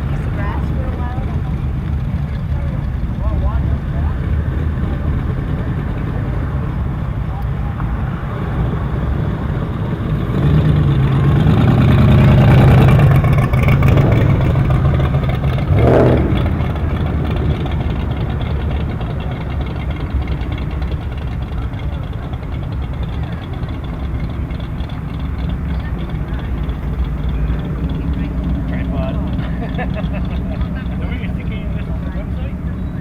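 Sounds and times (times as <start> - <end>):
car driving past: 0.0 - 33.0
traffic rumble: 0.0 - 33.0.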